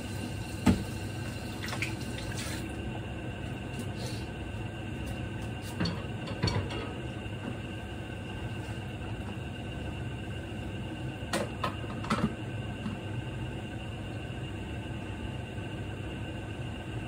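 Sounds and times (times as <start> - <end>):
pot simmering on gas burner: 0.0 - 15.1.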